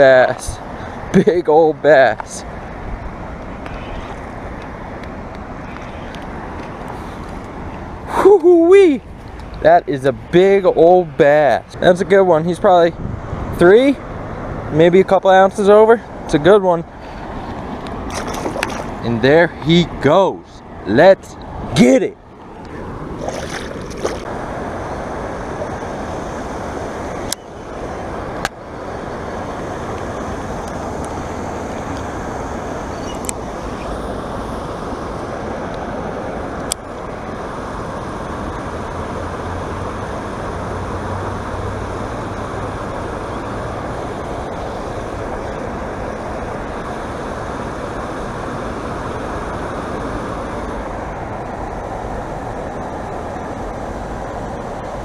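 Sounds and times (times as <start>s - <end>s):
waterfall and stream rushing: 0.0s - 55.0s.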